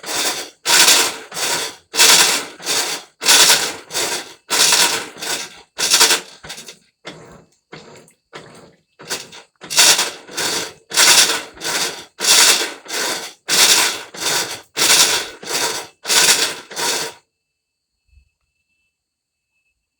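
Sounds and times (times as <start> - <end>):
washing machine scraping rattling: 0.0 - 17.2.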